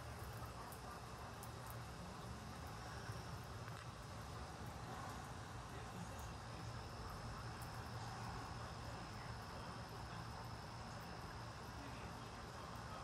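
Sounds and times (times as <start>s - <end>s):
outdoor night ambience hiss: 0.0s - 13.0s.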